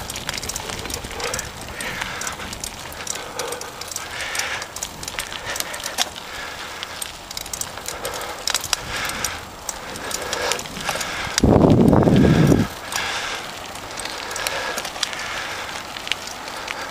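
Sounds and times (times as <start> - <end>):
bicycle tyres crunching on gravel: 0.0 - 16.9
crackles of grit and stones: 0.0 - 16.9.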